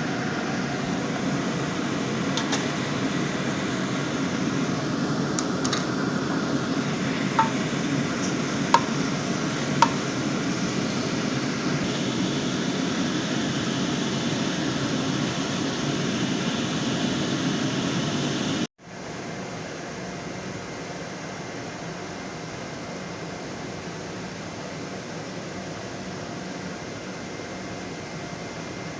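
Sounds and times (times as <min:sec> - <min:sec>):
kitchen fan whirring: 0:00.0 - 0:28.9.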